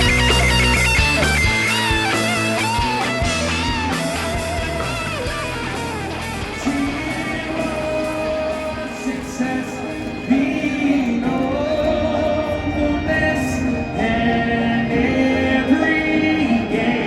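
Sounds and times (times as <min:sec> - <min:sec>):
musical accompaniment: 0:00.0 - 0:17.0.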